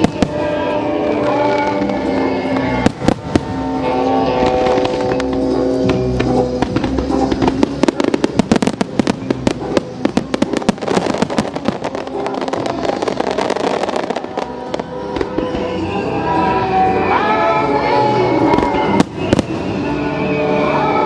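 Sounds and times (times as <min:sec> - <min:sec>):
fireworks bursting and crackling: 0:00.0 - 0:16.2, 0:18.4 - 0:20.4
music playing: 0:00.0 - 0:21.0.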